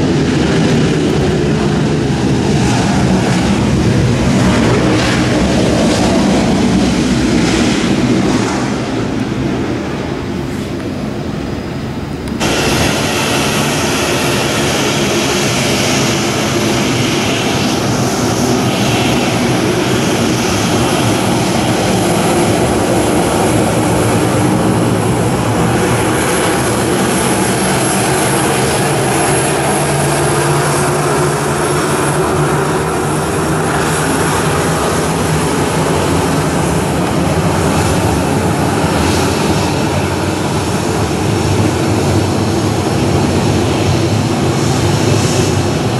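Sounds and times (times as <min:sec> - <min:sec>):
jet engines running: 0:00.0 - 0:45.9.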